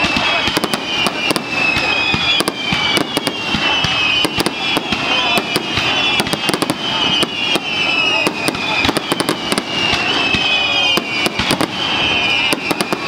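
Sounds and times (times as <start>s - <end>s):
fireworks bangs and crackles: 0.0s - 13.0s
fireworks whistling: 0.0s - 13.0s.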